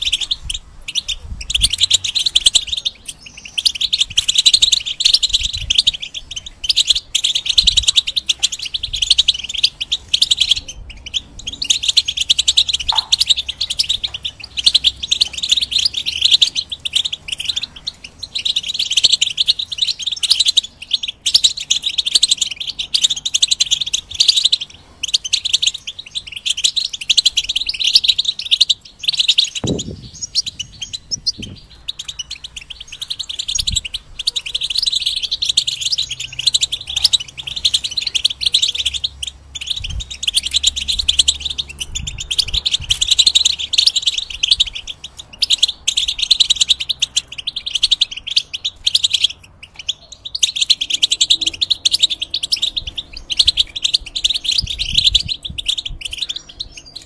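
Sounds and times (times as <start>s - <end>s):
finch twittering song: 0.0s - 57.0s.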